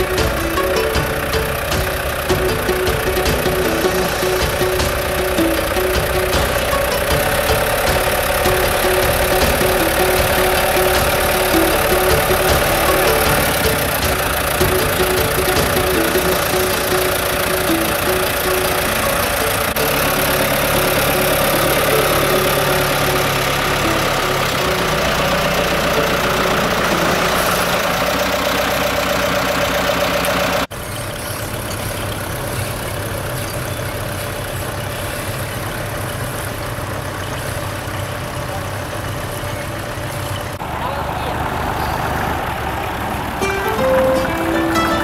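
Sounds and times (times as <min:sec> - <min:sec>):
quieter steady engine: 0:00.0 - 0:45.0
tractor engine running: 0:00.0 - 0:45.0.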